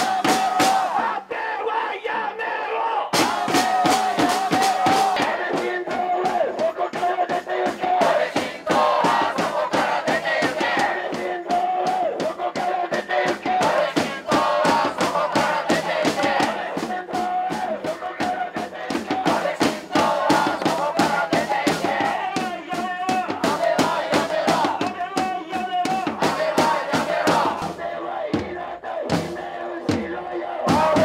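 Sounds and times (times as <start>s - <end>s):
frame drums: 0.0s - 1.2s, 3.1s - 31.0s
marching snare drums: 0.0s - 1.2s, 3.1s - 31.0s
crowd chanting in unison: 0.0s - 31.0s.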